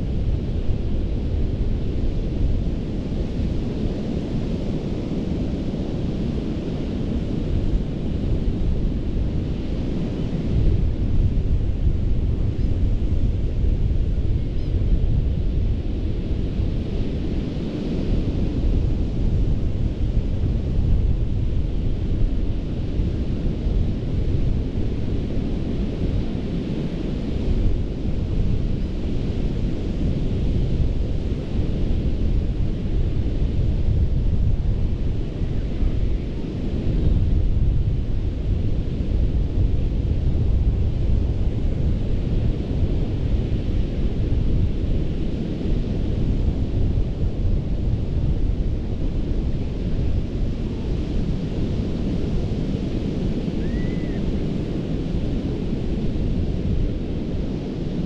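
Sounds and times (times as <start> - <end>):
low surf rumble: 0.0 - 58.0.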